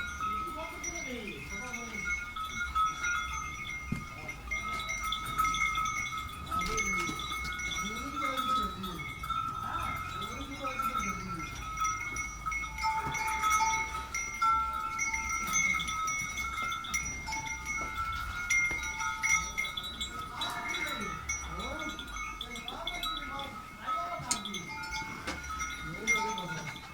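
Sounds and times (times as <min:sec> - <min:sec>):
chime-like ringing: 0:00.0 - 0:26.9
drawn-out animal calls: 0:00.0 - 0:26.9.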